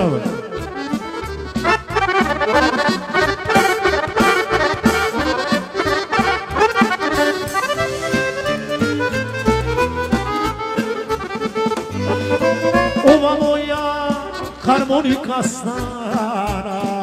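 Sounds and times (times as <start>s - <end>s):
accordion playing folk music: 0.0s - 17.0s.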